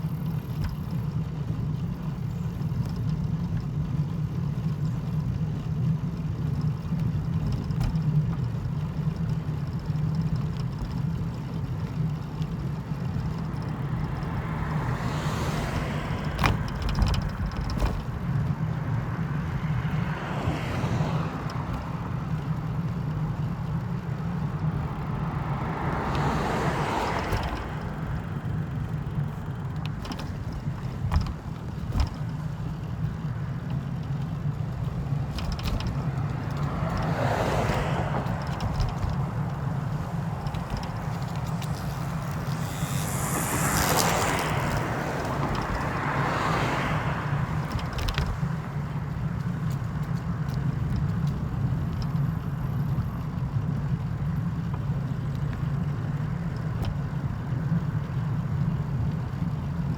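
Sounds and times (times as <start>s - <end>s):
vehicle engine hum: 0.0s - 59.9s.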